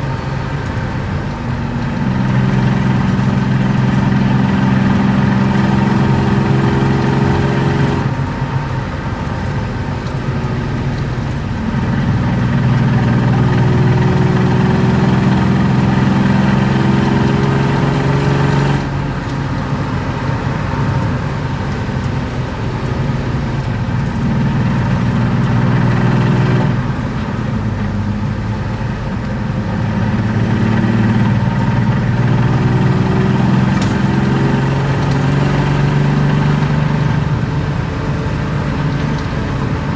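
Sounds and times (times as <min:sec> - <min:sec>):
car engine revving under throttle: 0:00.0 - 0:39.9.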